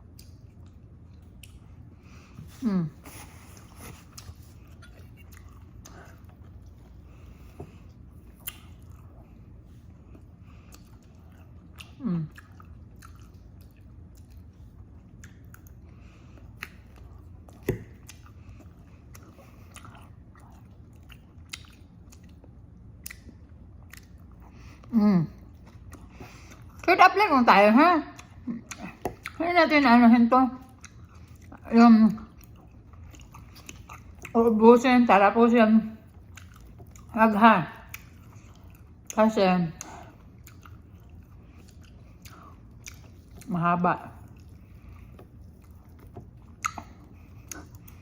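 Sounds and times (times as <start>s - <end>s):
chewing and biting food: 0.0s - 26.9s, 28.1s - 29.4s, 30.6s - 34.6s, 36.0s - 48.0s.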